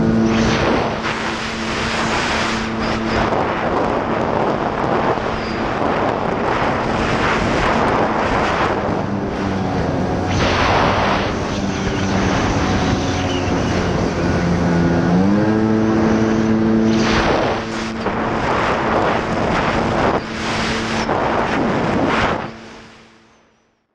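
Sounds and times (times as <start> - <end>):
wind buffeting microphone: 0.0 - 23.0
water spray rushing: 0.0 - 23.2
jet ski engine running: 0.0 - 23.3.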